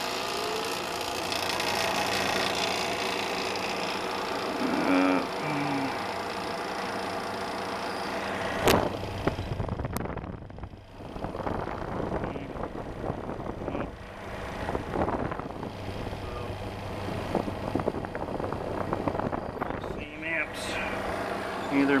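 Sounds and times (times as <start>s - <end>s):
fan motor humming: 0.0s - 22.0s
fan rattling: 0.0s - 22.0s.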